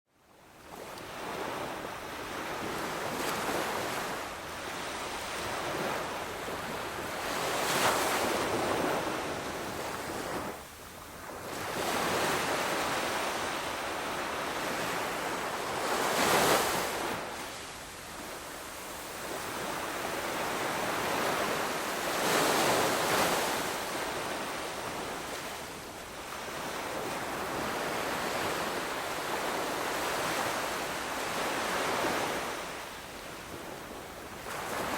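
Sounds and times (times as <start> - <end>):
ocean waves breaking: 0.7 - 10.6, 11.2 - 25.7, 26.3 - 34.9.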